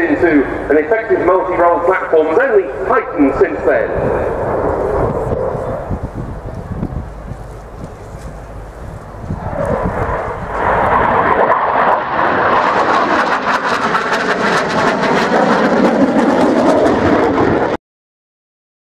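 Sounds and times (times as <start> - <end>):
jet roar: 0.0 - 17.8.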